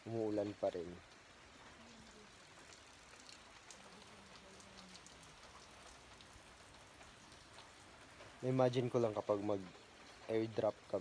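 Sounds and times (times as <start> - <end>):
faint light rain: 0.0 - 11.0
raindrops ticking: 0.0 - 11.0.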